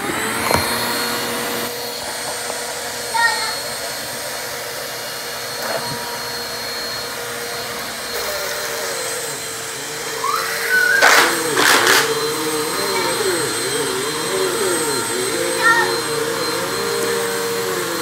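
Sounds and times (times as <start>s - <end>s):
upright vacuum running: 0.0s - 18.0s.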